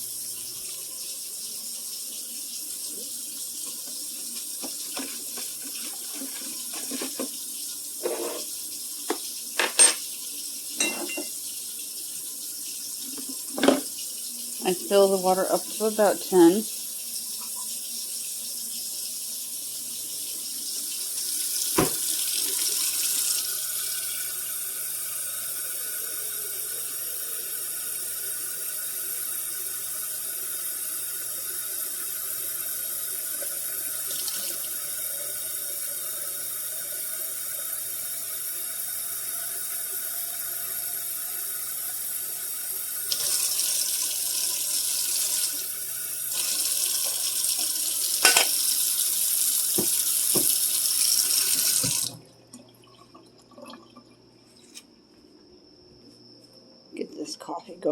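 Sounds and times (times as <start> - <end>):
tap water running into sink: 0.0 - 54.1.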